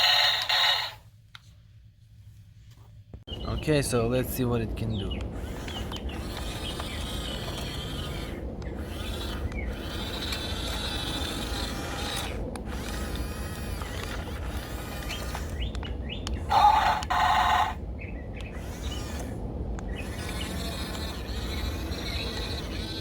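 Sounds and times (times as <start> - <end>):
toy motor and gearbox whining: 0.0 - 1.0, 5.1 - 23.0.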